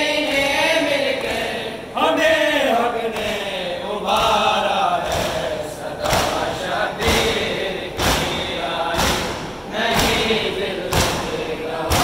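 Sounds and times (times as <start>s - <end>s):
group chanting in unison: 0.0s - 12.0s
rhythmic chest-beating thumps: 0.0s - 12.0s.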